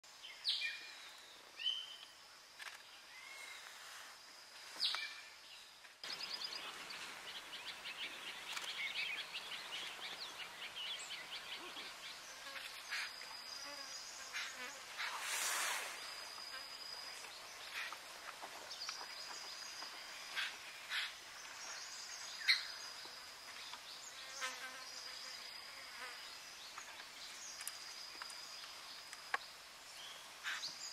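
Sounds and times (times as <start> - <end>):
insects buzzing and chirring: 0.1 - 30.9.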